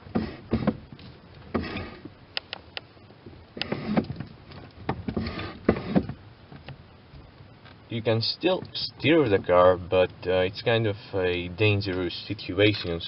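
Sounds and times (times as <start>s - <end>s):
steering knocks and clicks: 0.0s - 10.7s.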